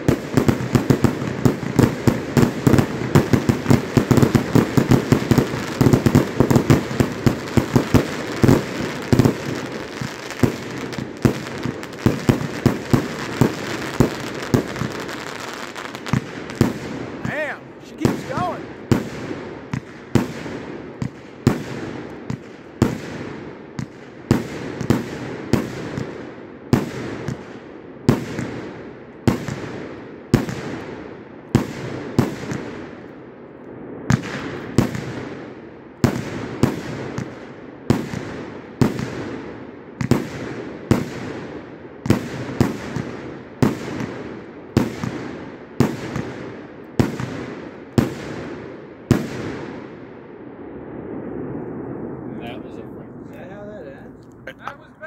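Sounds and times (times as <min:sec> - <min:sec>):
firework bangs: 0:00.0 - 0:33.1, 0:33.8 - 0:53.4.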